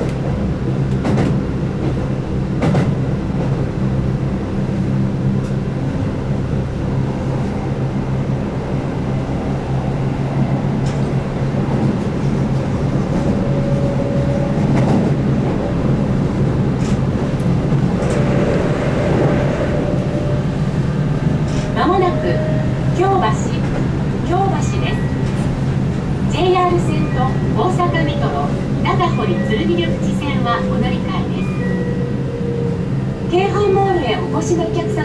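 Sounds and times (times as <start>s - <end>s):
train hum and rail rumble: 0.0s - 35.0s.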